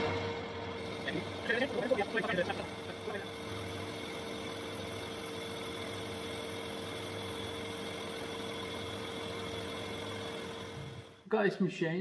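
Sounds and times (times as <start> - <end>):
metal lathe running: 0.0 - 11.3.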